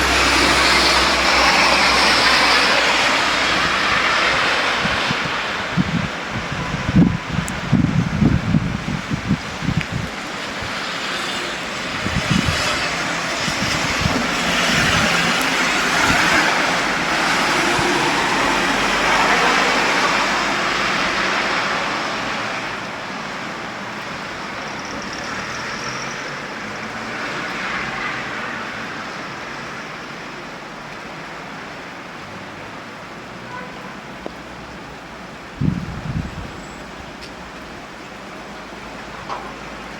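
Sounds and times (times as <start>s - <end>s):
rain falling: 0.0s - 39.9s
tyres hissing on wet street: 0.0s - 39.9s.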